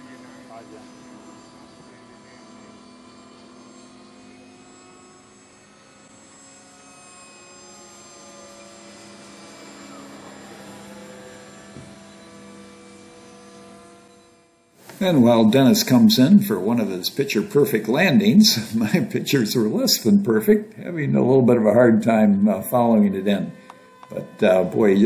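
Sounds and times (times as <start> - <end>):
model jet fan whining: 0.0 - 25.0.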